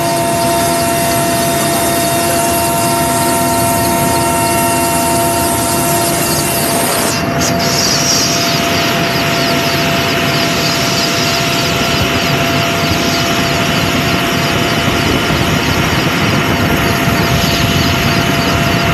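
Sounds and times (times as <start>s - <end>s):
faint constant whine: 0.0s - 18.9s
helicopter rotor and engine din: 0.0s - 18.9s.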